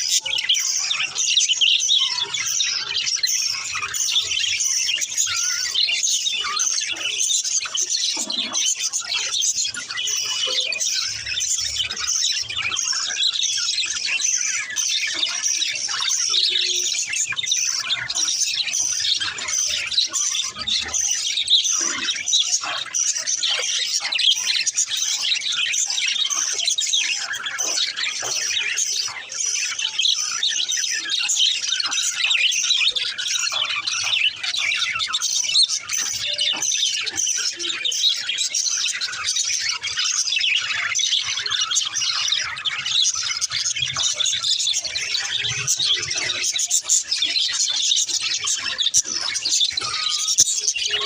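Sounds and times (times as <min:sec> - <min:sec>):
budgerigars chirping: 0:00.0 - 0:51.0.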